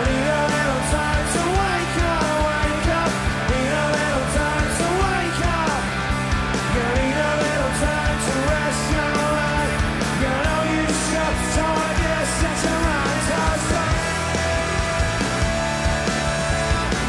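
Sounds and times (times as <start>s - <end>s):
man singing lead vocal: 0.0s - 6.0s, 6.6s - 14.8s
live rock band: 0.0s - 17.0s.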